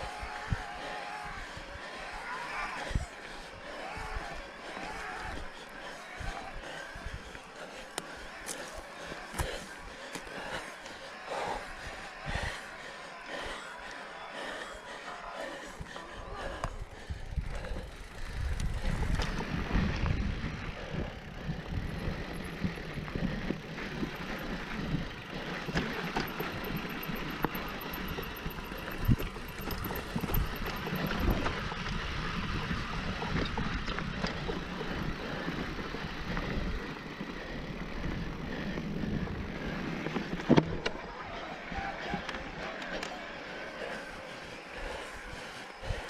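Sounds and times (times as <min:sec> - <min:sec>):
bike tyres and drivetrain rolling: 0:00.0 - 0:46.0.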